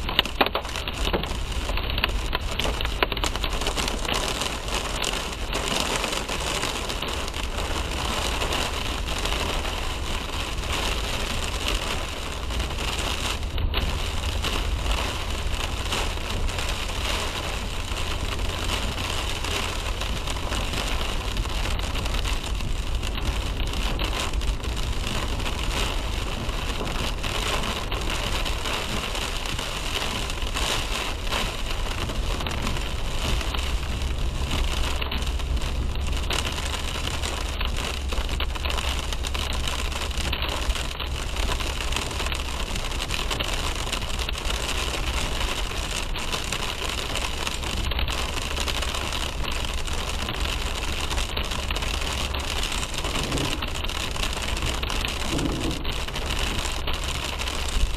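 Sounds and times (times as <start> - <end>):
low road and engine rumble: 0.0 - 57.9
rain on a car roof: 0.0 - 57.9.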